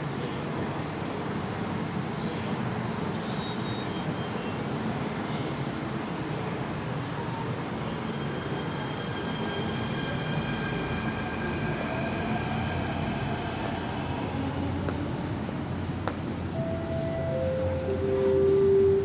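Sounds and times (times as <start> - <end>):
metro train rumbling on track: 0.0 - 19.0.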